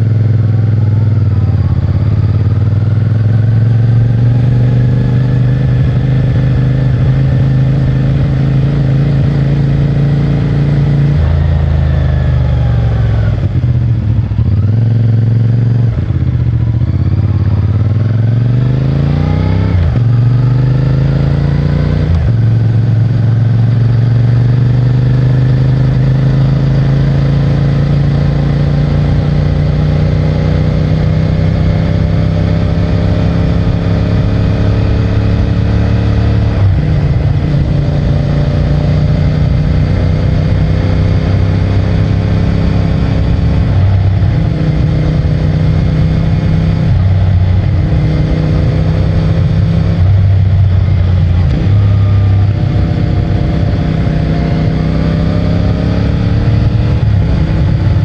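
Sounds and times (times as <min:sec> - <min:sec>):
motorcycle engine revving and shifting: 0:00.0 - 0:58.0.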